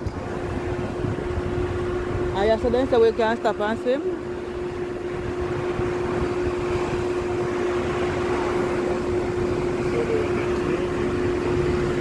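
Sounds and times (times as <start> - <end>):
boat motor humming: 0.0 - 12.0
rush of wind and water: 0.0 - 12.0.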